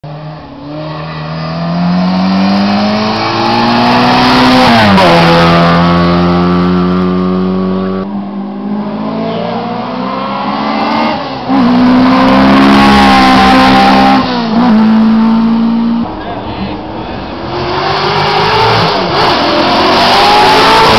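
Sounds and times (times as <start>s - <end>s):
race cars passing at full throttle: 0.1s - 20.9s.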